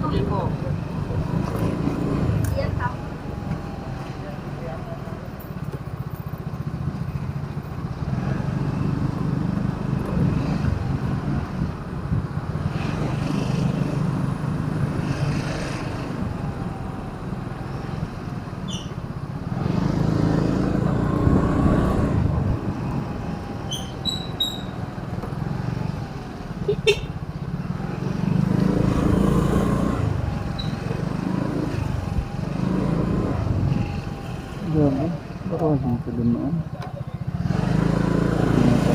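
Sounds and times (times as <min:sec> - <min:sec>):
road traffic engines running: 0:00.0 - 0:38.9
vehicles passing close by: 0:00.0 - 0:38.9.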